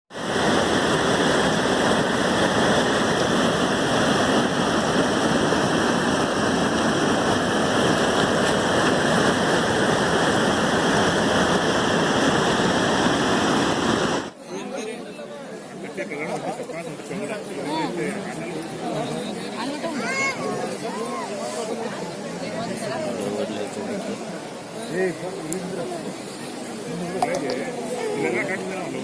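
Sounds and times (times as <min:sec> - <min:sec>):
rushing river water: 0:00.1 - 0:29.0.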